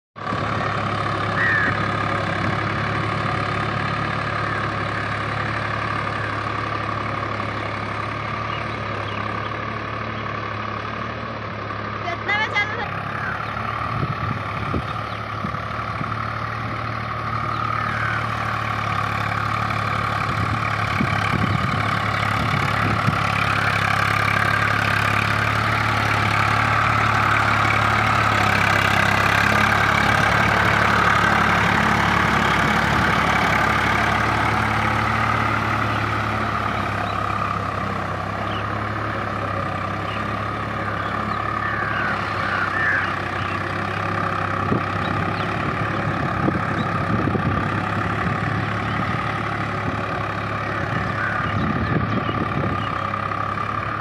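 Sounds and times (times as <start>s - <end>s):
tractor engine running: 0.2s - 54.0s.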